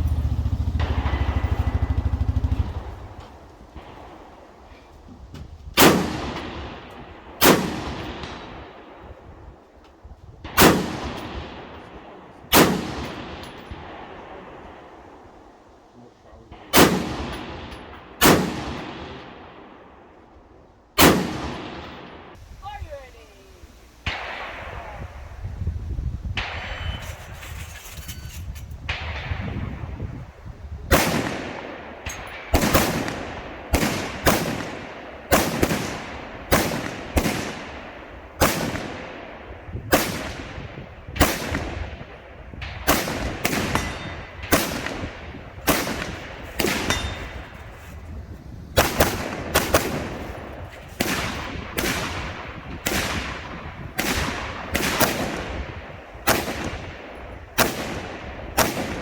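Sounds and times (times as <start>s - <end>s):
rifle shots echoing: 0.1s - 5.0s, 5.8s - 9.8s, 10.4s - 22.4s, 24.0s - 25.3s, 30.9s - 59.0s.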